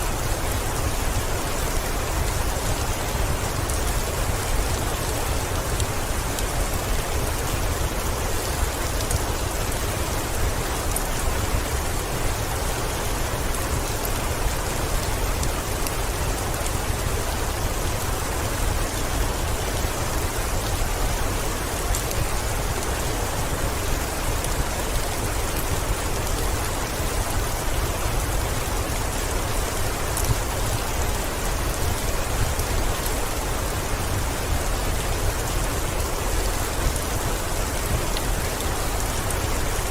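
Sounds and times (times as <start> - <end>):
heavy rain on window: 0.0 - 39.9.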